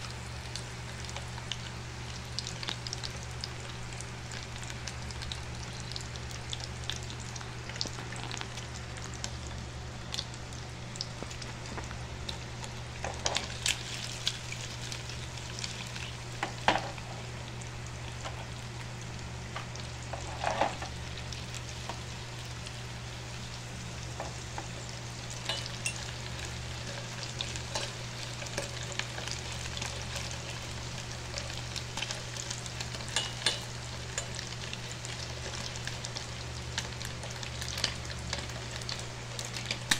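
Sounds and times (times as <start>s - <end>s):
sausages sizzling in frying pan: 0.0s - 39.9s.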